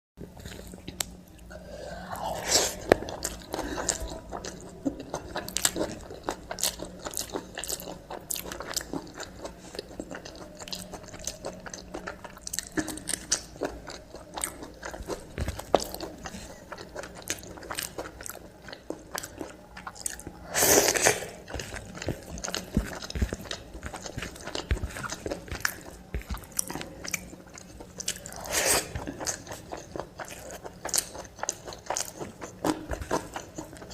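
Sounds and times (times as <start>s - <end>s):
person chewing food: 0.2s - 33.9s.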